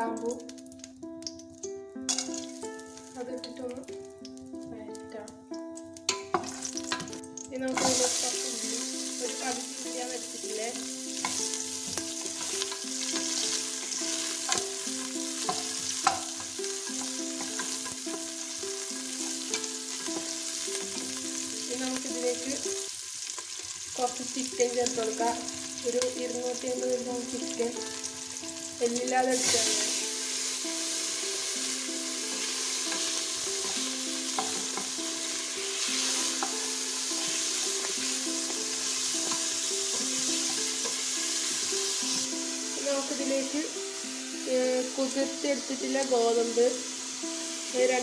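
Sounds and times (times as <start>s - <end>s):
onion sizzling in hot oil: 0.0s - 48.0s
simple background melody: 0.0s - 48.0s.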